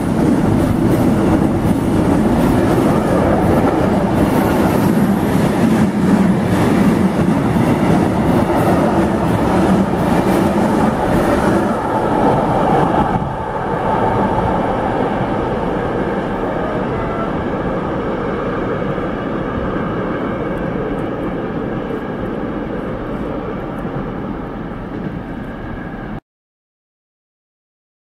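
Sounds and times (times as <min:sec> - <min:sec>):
freight train rolling over rails: 0:00.0 - 0:26.2.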